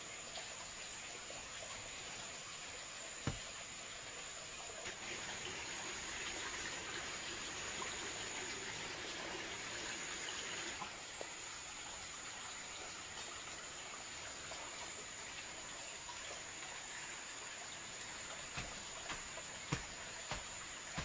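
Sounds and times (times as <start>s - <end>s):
water trickling: 0.0s - 21.0s.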